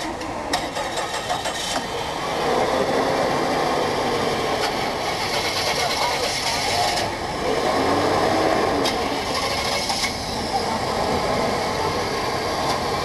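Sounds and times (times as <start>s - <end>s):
car engines running: 0.0s - 13.0s
crowd chatter: 1.5s - 13.0s.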